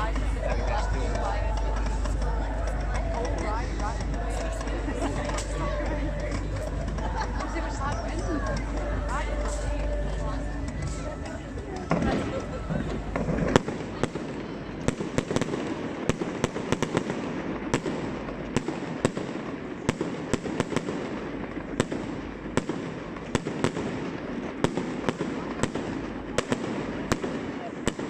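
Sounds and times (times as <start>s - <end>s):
background rumble and hiss: 0.0s - 27.9s
fireworks cracking and banging: 0.0s - 28.0s.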